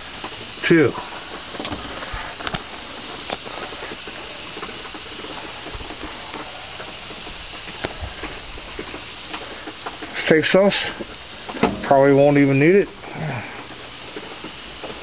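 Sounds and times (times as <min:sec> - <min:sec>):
steaks sizzling on a grill: 0:00.0 - 0:15.0.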